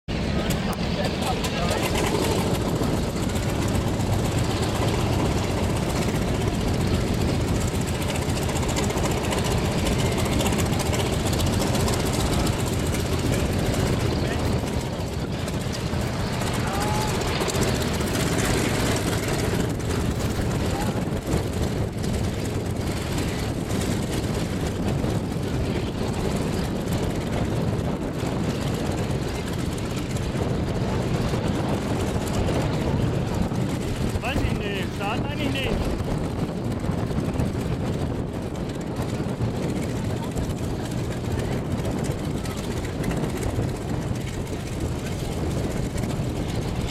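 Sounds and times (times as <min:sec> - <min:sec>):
piston aircraft engine running: 0:00.1 - 0:46.9.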